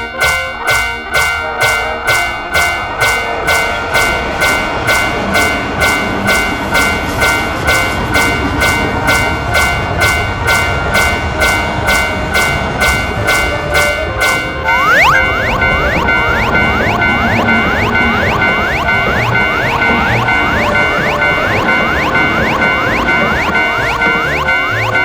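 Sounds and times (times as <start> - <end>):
railroad crossing bell dinging: 0.0 - 25.0
train rumbling past: 0.0 - 25.0.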